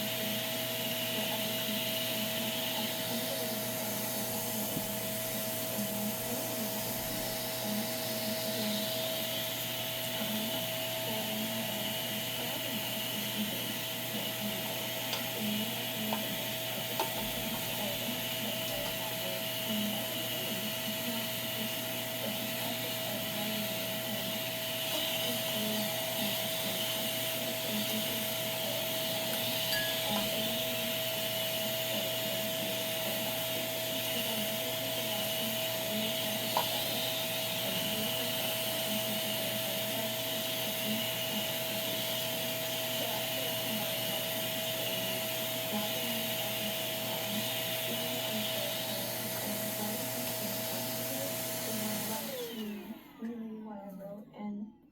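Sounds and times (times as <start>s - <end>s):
vacuum cleaner whining: 0.0s - 54.2s.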